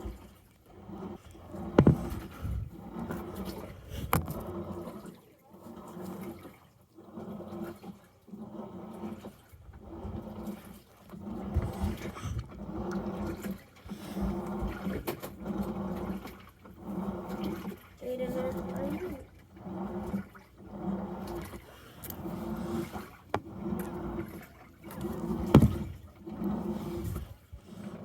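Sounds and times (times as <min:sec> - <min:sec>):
washing machine motor hum: 0:00.0 - 0:28.0
washing machine water sloshing: 0:00.0 - 0:28.0.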